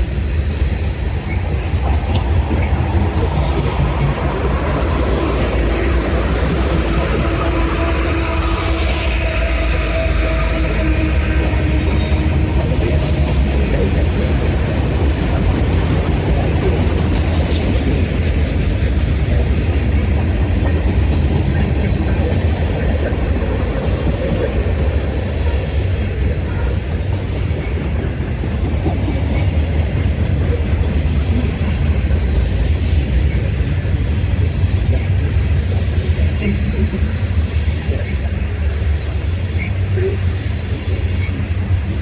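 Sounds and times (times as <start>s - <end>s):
freight train wheels on rails: 0.0s - 42.0s.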